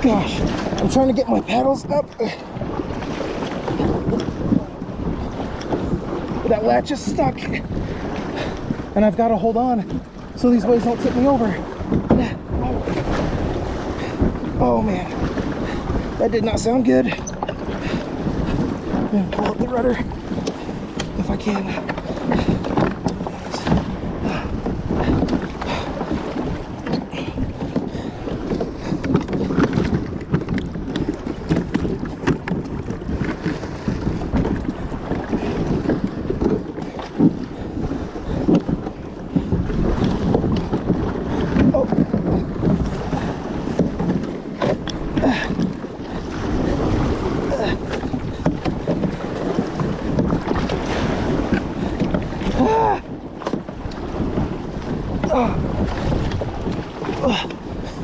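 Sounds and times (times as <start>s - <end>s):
waves slapping against hull: 0.0s - 58.0s
wind buffeting microphone: 0.0s - 58.0s.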